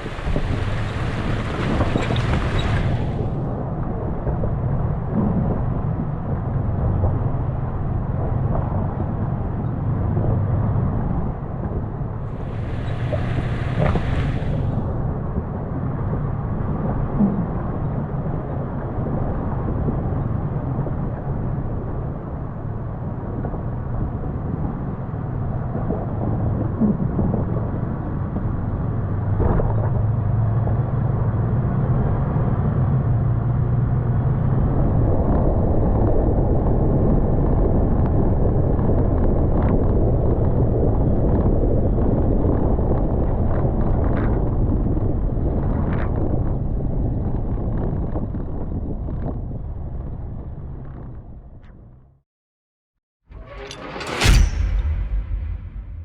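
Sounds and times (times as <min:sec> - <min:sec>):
wind on microphone: 0:00.0 - 0:51.9
engine and tyre rumble: 0:00.0 - 0:52.2.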